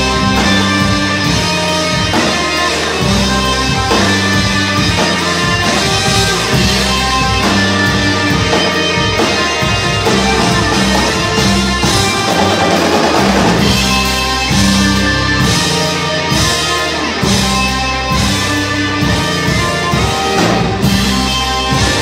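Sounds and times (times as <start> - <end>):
bass and drums: 0.0 - 22.0
electric guitar: 0.0 - 22.0.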